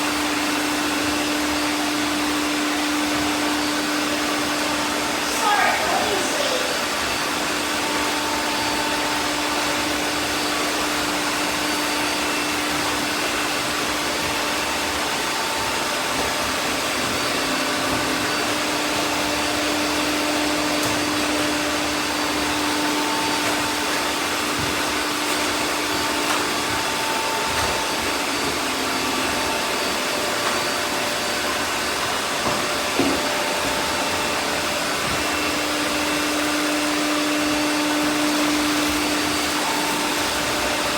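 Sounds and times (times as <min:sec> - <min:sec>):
robot vacuums whirring: 0:00.0 - 0:40.9.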